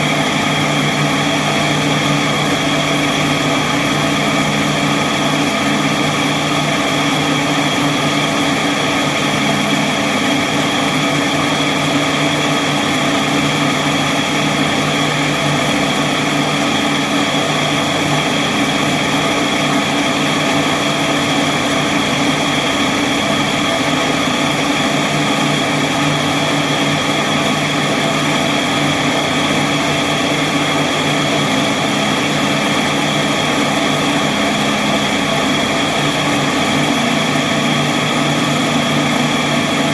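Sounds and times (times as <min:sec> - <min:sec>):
high gearbox whine: 0:00.0 - 0:39.9
machine motor humming: 0:00.0 - 0:39.9.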